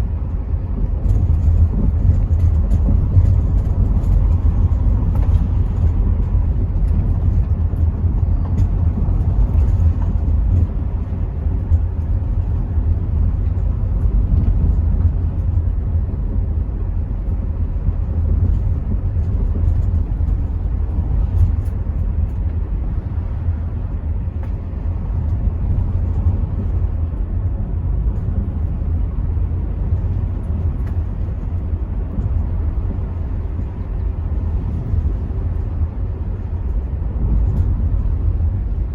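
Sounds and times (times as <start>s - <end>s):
car engine running: 0.0s - 38.9s
road noise: 0.0s - 38.9s
wind buffeting through windows: 0.0s - 38.9s.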